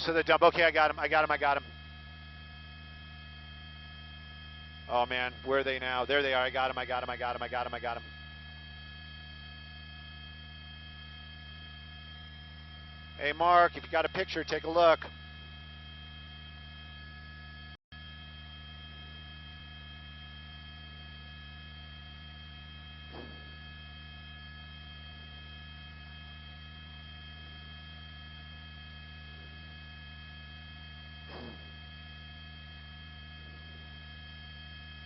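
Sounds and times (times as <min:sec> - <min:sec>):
intercom droning hum: 0:00.0 - 0:35.0.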